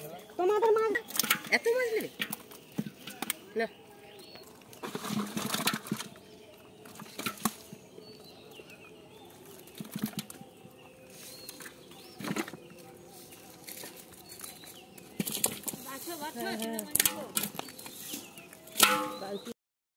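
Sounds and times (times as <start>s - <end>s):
birds chirping faintly: 0.0s - 19.6s.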